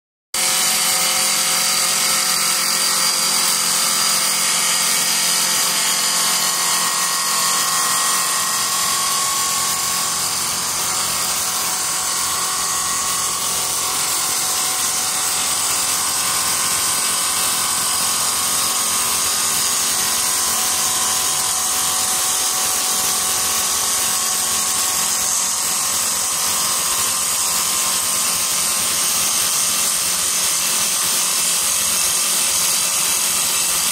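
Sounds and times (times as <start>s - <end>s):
lathe machine whine: 0.4s - 33.9s
wood being cut hiss: 0.4s - 33.9s.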